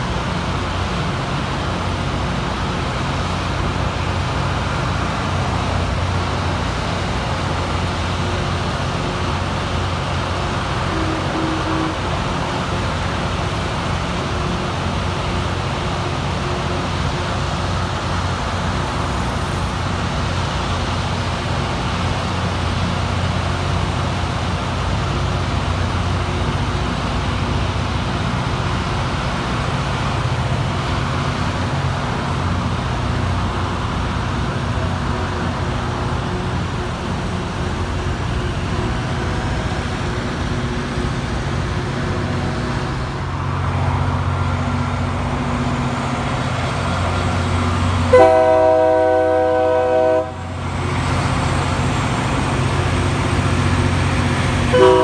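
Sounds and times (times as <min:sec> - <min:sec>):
hiss: 0:00.0 - 0:48.1
train rumbling past: 0:00.0 - 0:55.0.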